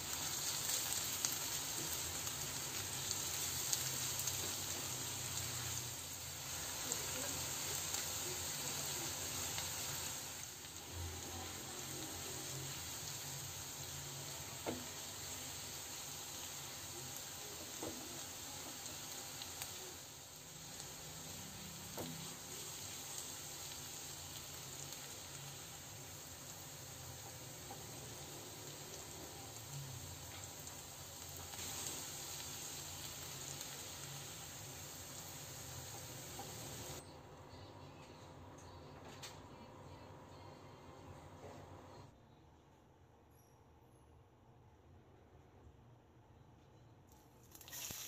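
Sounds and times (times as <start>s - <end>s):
potatoes sizzling in oil: 0.0s - 38.1s, 47.5s - 48.0s.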